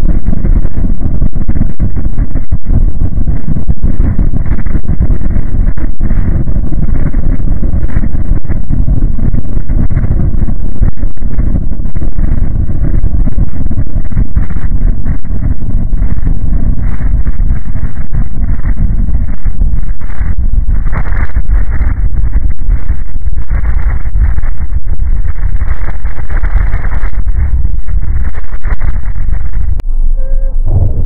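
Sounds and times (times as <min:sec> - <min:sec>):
faint high whine: 0:00.0 - 0:31.0
low underwater rumbling: 0:00.0 - 0:31.0.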